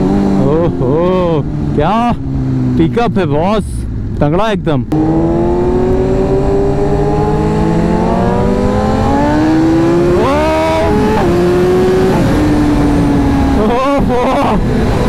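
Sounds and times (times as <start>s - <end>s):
motorcycle engine accelerating: 0.0s - 15.0s
wind rush: 1.4s - 15.0s.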